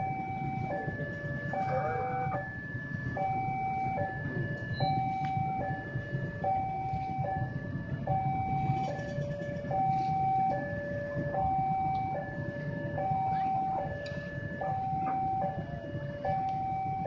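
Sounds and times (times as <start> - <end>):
two-tone crossing alarm: 0.0 - 17.0.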